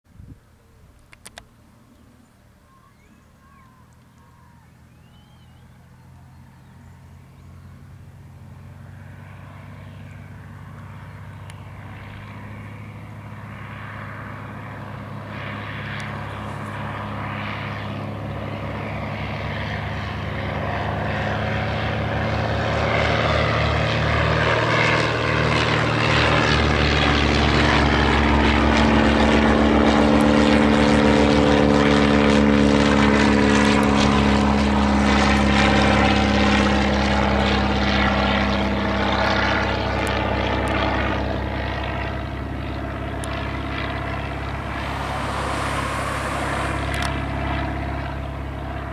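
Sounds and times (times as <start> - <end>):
propeller aircraft engines droning: 0.1 - 48.9.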